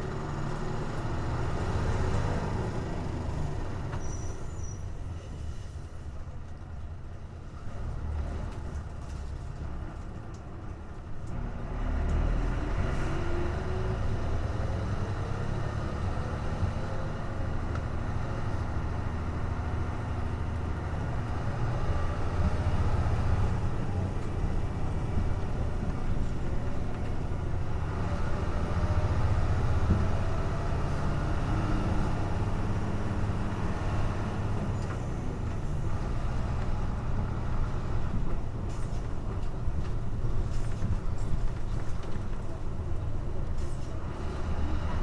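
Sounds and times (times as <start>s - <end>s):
bus engine drone: 0.0s - 45.0s.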